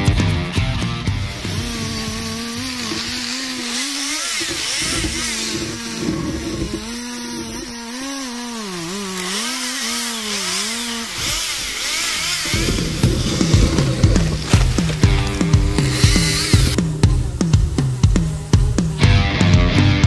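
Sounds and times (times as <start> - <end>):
chainsaw cutting wood: 0.8 - 19.5.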